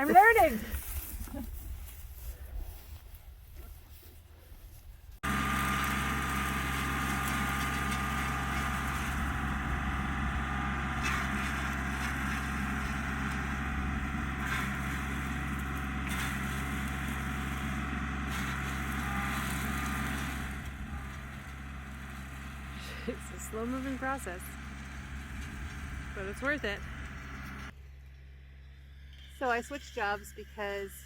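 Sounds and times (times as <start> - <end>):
engine running steadily: 5.2 - 31.0.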